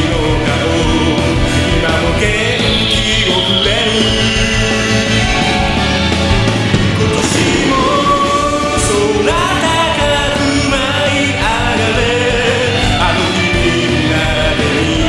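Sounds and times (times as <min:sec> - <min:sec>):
person singing a melody: 0:00.0 - 0:05.7, 0:07.0 - 0:15.0
instrumental accompaniment: 0:00.0 - 0:15.0.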